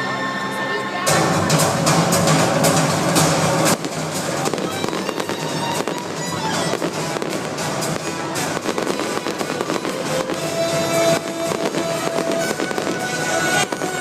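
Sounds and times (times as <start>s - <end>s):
loud show music: 0.0s - 14.0s
fireworks crackling and popping: 1.1s - 14.0s.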